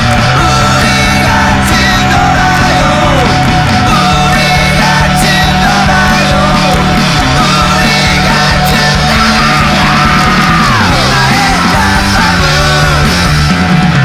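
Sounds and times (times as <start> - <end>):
shouted vocals: 0.0 - 13.5
punk rock band: 0.0 - 14.0.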